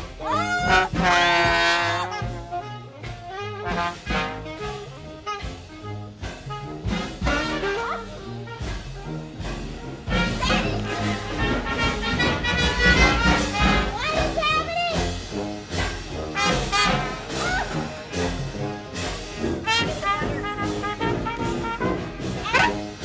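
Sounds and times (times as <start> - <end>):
voices: 0.0 - 6.0, 7.2 - 19.0, 19.6 - 23.0
upbeat brass music: 0.0 - 23.0.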